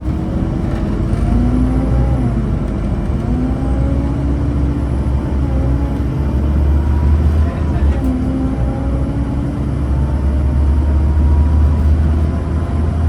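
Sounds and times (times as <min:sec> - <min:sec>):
bus diesel engine pulling away: 0:00.0 - 0:13.0.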